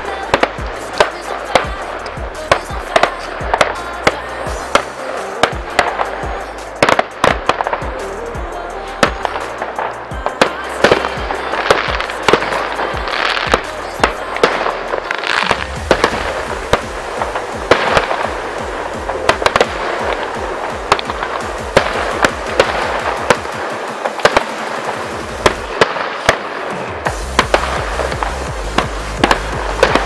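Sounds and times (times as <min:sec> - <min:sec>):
electronic music with bass line: 0:00.0 - 0:30.0
fireworks bangs and crackle: 0:00.0 - 0:30.0.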